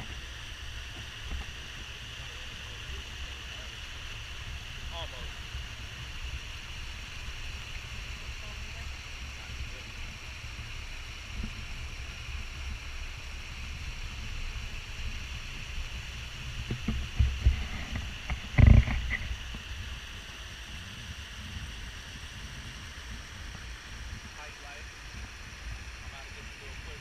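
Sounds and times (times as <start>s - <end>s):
steady hiss: 0.0s - 27.0s
wind rumbling on microphone: 0.0s - 27.0s.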